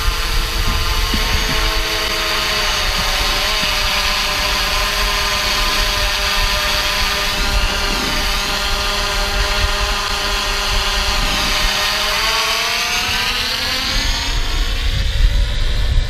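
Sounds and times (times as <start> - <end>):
drone propellers whining: 0.0 - 16.0
wind rumbling on microphone: 0.0 - 16.0.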